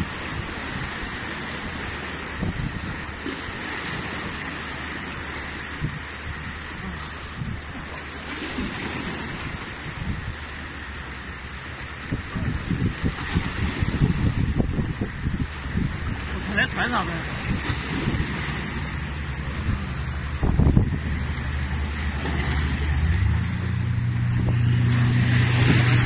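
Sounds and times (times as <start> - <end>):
wind buffeting microphone: 0.0 - 4.5, 5.1 - 10.6, 11.4 - 26.0
lake waves on rocks: 0.0 - 26.0.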